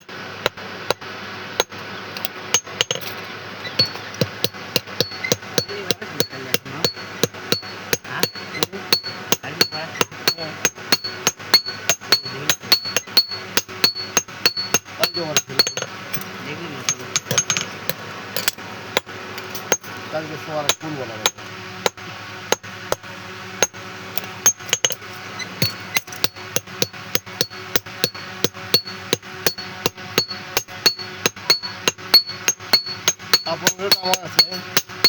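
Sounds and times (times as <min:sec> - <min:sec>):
hammer striking metal on anvil: 0:01.6 - 0:03.2, 0:03.8 - 0:20.0, 0:20.6 - 0:22.7, 0:23.6 - 0:35.0.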